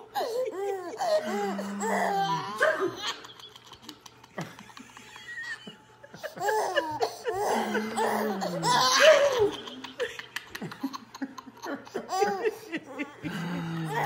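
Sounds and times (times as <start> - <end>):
baby laughing: 0.0 - 13.2.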